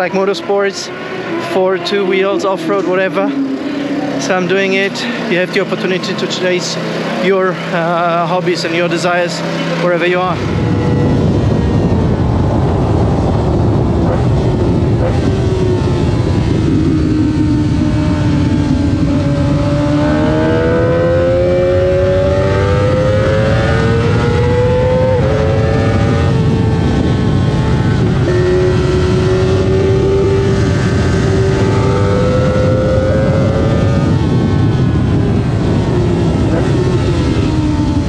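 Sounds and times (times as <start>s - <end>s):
motorcycle engine accelerating: 0.0s - 38.0s
wind rush: 0.0s - 38.0s.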